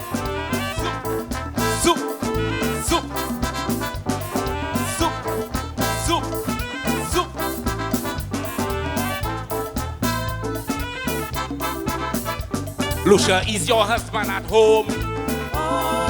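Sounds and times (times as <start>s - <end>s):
calypso band playing: 0.0s - 16.0s.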